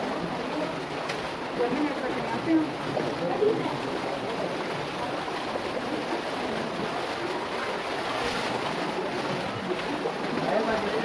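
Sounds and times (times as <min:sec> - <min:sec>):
stream rushing through rock gorge: 0:00.0 - 0:11.0.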